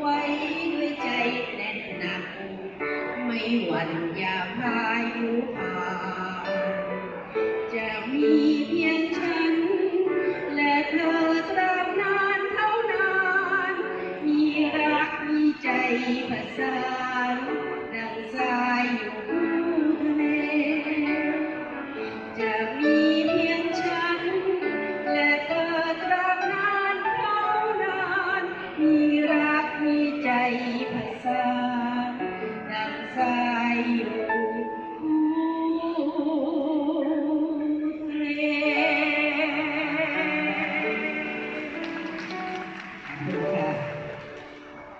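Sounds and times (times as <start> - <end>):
slow song with high vocal melody: 0.0 - 44.9.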